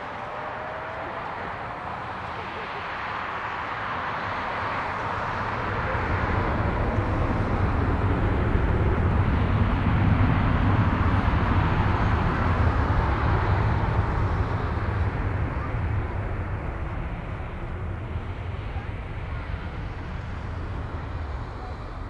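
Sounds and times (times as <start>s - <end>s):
jet engine rumble with rushing hiss: 0.0s - 22.0s.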